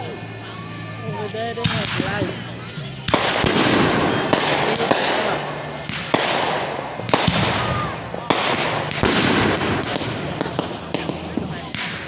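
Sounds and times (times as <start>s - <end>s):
fireworks bursting with bangs: 1.1s - 12.0s
crackling hissing firework tail: 1.2s - 12.0s.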